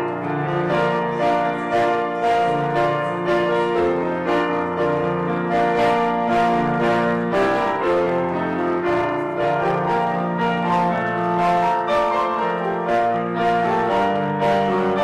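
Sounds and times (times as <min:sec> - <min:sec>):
slow grand piano: 0:00.0 - 0:15.0.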